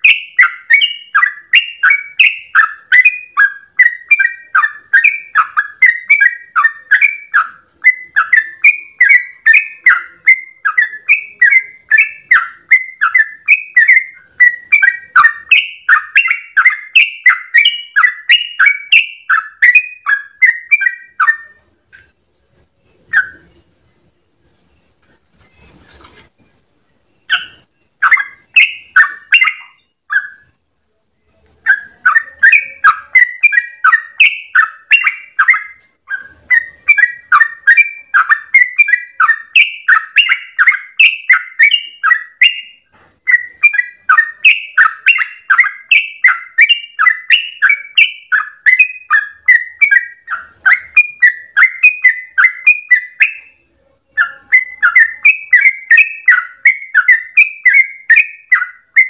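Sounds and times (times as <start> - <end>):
bulbul chattering song: 0.0 - 22.2, 27.0 - 59.0.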